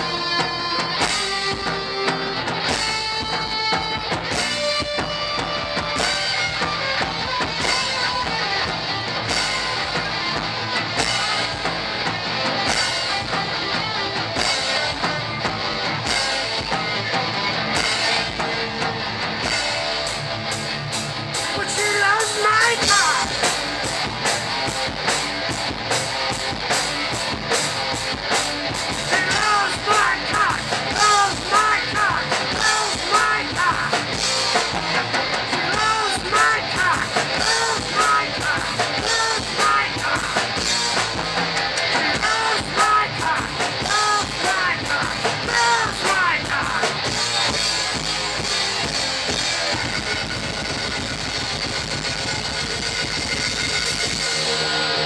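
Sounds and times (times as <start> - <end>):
rock band playing: 0.0 - 55.0.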